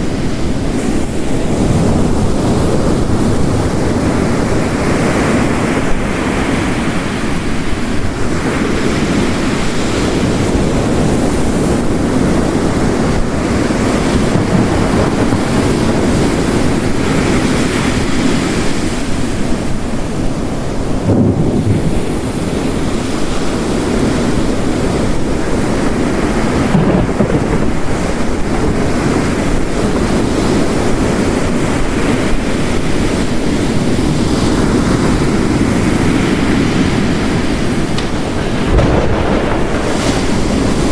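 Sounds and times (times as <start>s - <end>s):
heavy rain falling: 0.0s - 40.9s
ocean waves breaking on shore: 0.0s - 40.9s.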